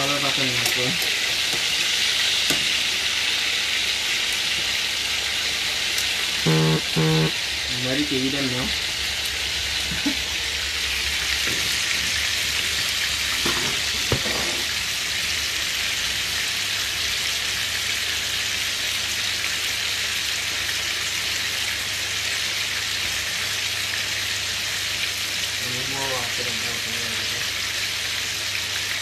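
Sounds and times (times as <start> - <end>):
chicken sizzling in a frying pan: 0.0 - 29.0.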